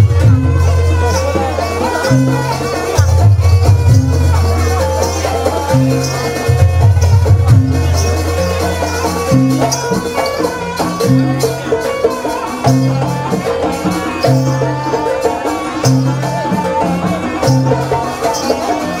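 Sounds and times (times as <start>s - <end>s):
busy ensemble melody: 0.0s - 19.0s
rattling percussion: 0.0s - 19.0s.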